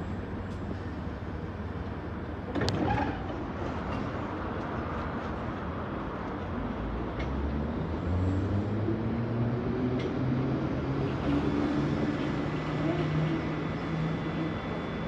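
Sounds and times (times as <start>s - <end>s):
train traction motors humming: 0.0s - 15.0s.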